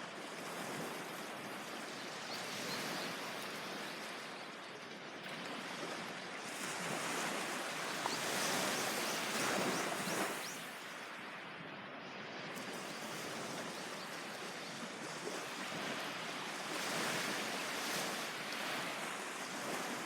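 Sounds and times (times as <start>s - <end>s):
sea waves washing onto beach: 0.0s - 11.4s, 12.5s - 20.0s.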